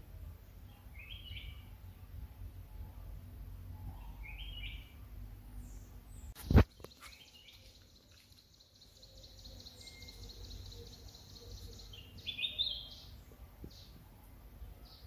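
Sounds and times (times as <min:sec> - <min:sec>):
birds chirping: 0:00.5 - 0:03.2, 0:03.8 - 0:15.0.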